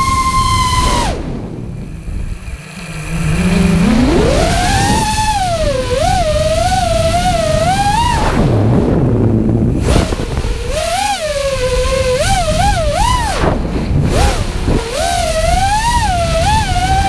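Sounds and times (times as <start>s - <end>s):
drone motors whining: 0.0s - 17.0s
steady rushing noise: 0.0s - 17.0s.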